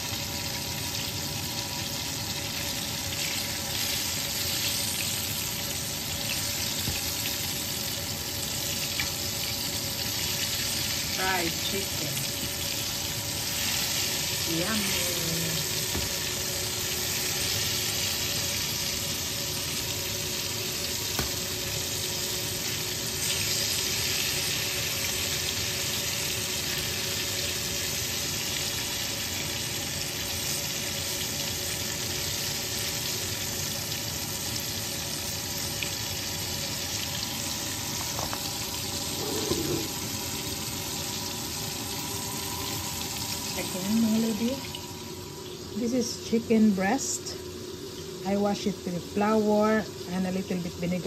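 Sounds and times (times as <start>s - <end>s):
chicken sizzling in hot oil: 0.0s - 51.0s.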